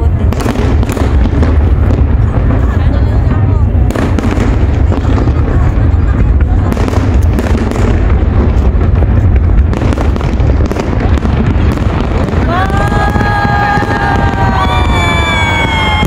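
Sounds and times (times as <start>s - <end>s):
fireworks bursts and crackle: 0.0s - 16.0s
heavy low rumble: 0.0s - 16.0s.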